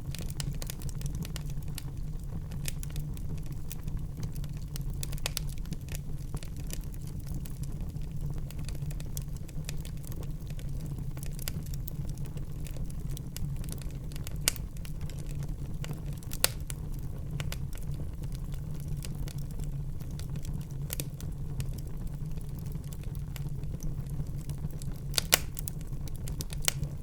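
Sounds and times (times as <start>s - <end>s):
wood fire crackling: 0.0s - 27.0s
loud fire pops: 0.1s - 19.4s, 20.0s - 27.0s.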